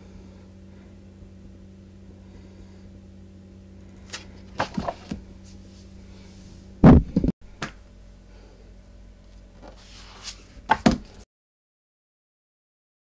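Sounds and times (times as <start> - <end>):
low electrical hum: 0.0 - 11.2.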